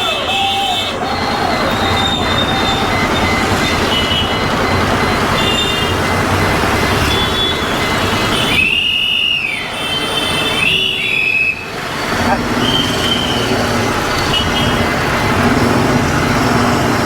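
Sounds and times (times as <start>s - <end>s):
high squealing tone: 0.0s - 16.4s
truck and road traffic rumble: 0.0s - 17.0s.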